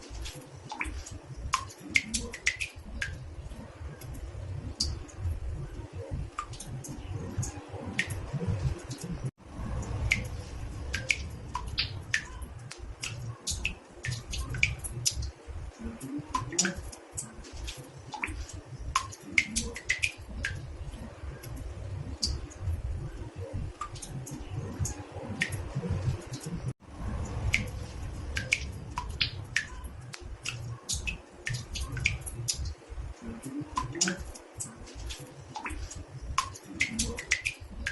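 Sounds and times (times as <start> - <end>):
water drops plinking in bathtub: 0.1 - 26.6, 27.2 - 37.9.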